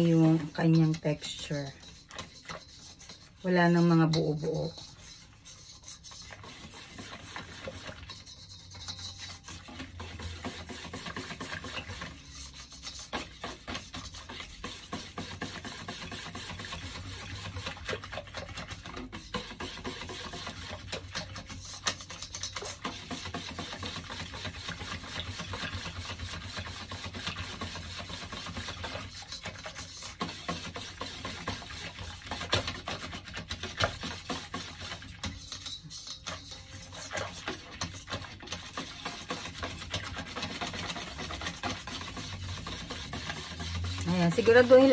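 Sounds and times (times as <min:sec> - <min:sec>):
whisk beating batter in bowl: 0:00.0 - 0:44.9.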